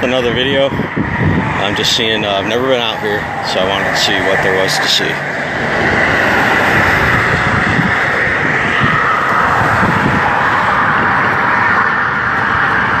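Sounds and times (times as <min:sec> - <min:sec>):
car traffic rushing: 0:00.0 - 0:13.0
wind rumble on microphone: 0:00.0 - 0:13.0.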